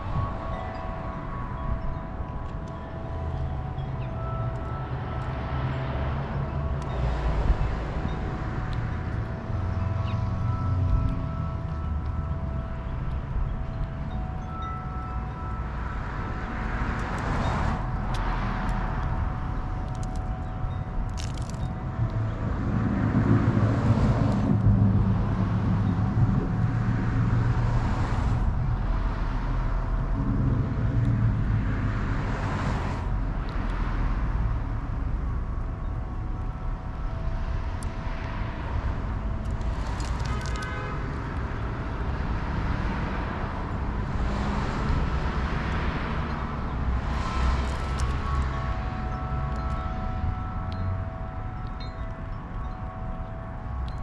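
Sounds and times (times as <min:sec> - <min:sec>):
low traffic rumble: 0:00.0 - 0:54.0
vehicles passing: 0:00.0 - 0:54.0.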